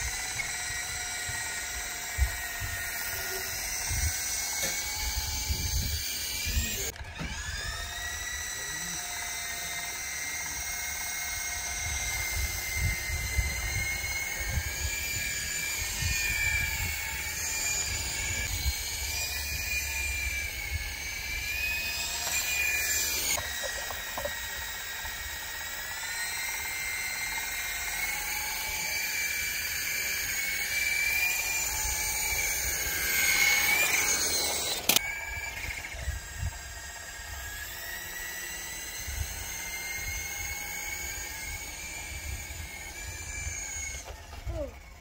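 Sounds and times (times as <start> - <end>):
toy helicopter motor whining: 0.0 - 45.0.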